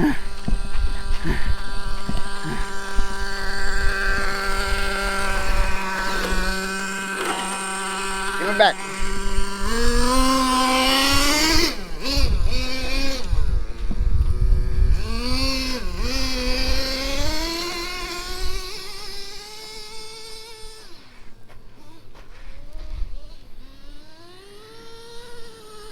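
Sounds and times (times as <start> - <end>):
small nitro engine revving: 0.0 - 25.9.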